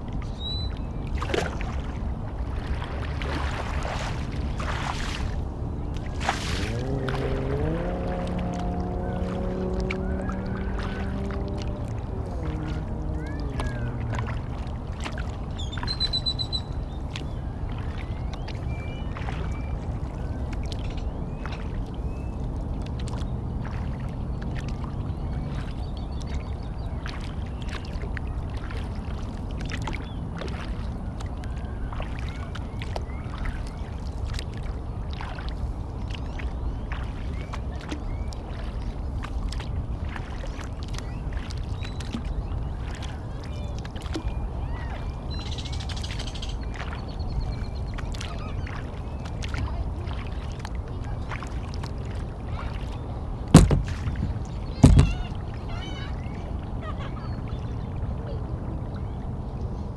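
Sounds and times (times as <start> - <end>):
water splashes and drips: 0.0 - 59.8.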